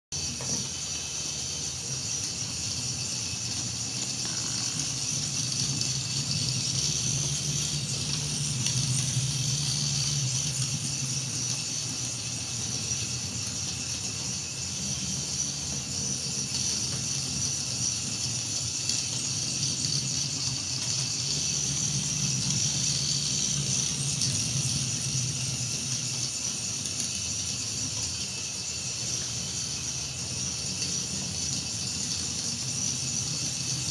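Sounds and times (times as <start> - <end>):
electric motors whining: 0.2 - 33.9.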